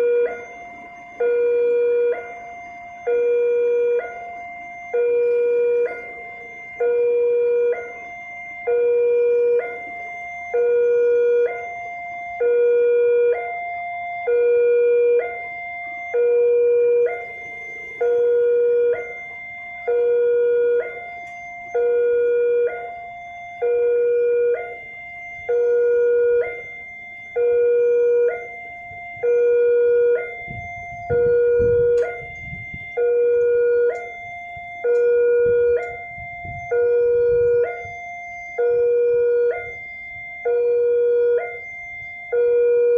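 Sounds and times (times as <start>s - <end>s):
level crossing warning alarm: 0.0s - 42.9s.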